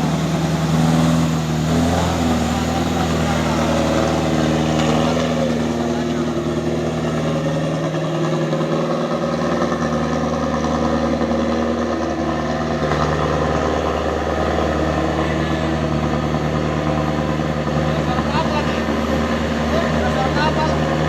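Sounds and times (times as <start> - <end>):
truck diesel engine running: 0.0 - 21.0.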